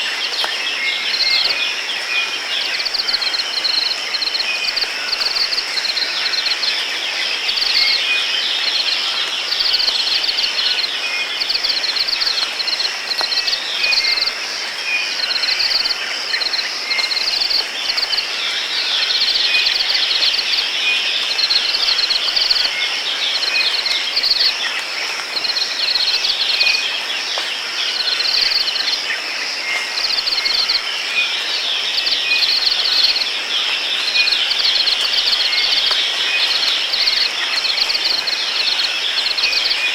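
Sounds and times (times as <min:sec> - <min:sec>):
insect drone with pulsing chirps: 0:00.0 - 0:39.9.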